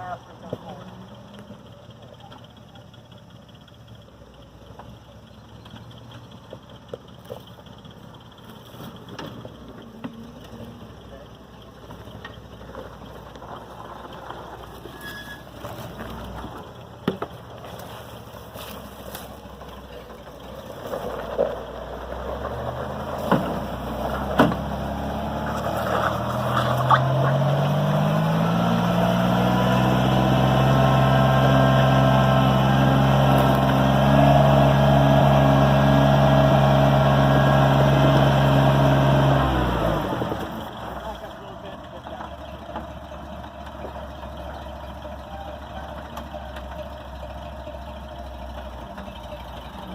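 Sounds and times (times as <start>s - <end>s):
off-road vehicle engine approaching: 0.0s - 49.9s.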